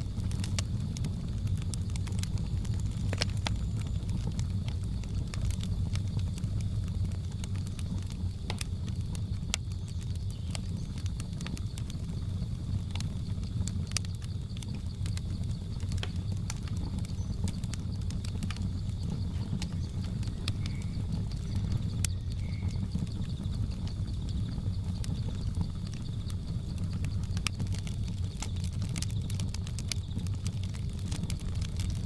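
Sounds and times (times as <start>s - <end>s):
jungle insects droning: 0.0s - 32.0s
wood fire crackling: 0.0s - 32.0s.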